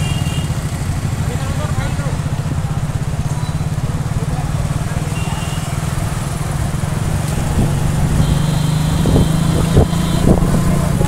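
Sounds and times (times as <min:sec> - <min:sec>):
motorcycle engine droning: 0:00.0 - 0:11.0
road and wind noise: 0:00.0 - 0:11.0.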